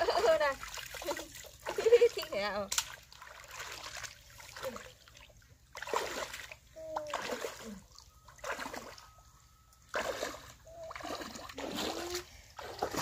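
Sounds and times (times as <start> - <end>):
water splashing from wading: 0.0 - 13.0.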